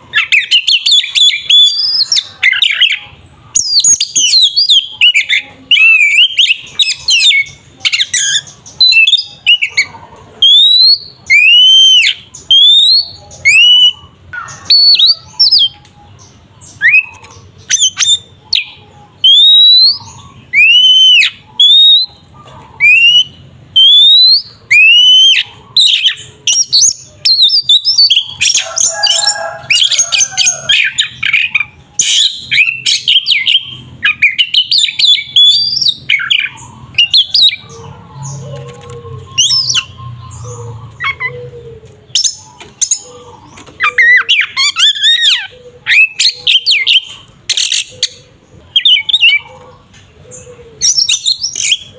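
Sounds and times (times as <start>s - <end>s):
bird singing whistles and trills: 0.1s - 37.8s, 39.1s - 41.5s, 42.1s - 49.6s, 50.3s - 51.9s.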